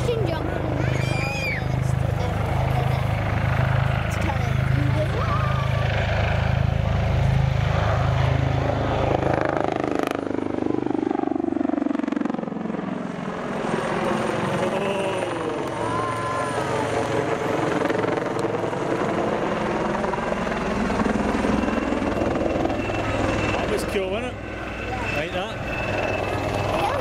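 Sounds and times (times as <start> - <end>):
helicopter flying past: 0.0 - 27.0.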